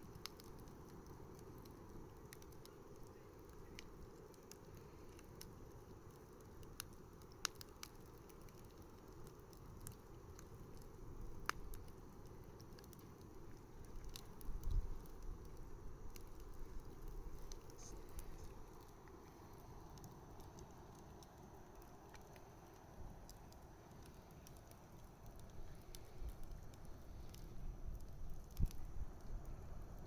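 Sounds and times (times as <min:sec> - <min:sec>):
bonfire crackling: 0:00.0 - 0:30.0.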